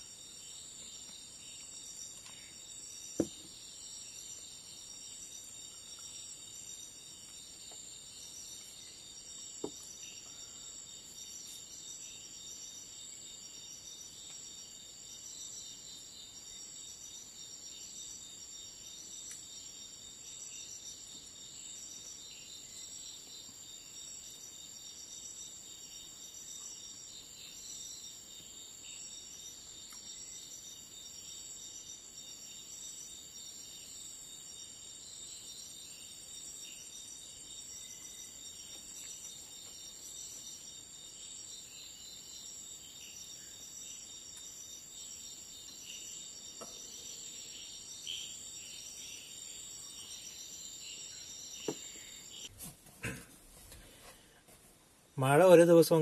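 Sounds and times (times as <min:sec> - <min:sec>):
insects trilling: 0:00.0 - 0:53.3, 0:55.2 - 0:56.0.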